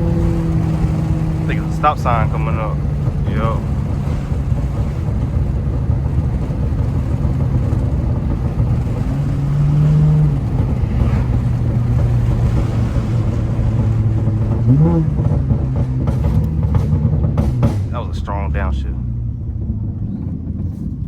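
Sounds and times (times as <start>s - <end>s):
car engine running: 0.0s - 21.0s
road noise: 0.0s - 21.0s.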